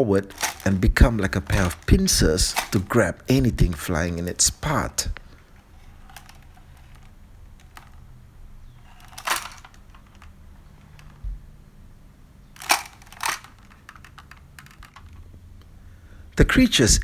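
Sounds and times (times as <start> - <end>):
plastic toy clicking: 0.2 - 8.1, 8.7 - 11.3, 12.6 - 15.7.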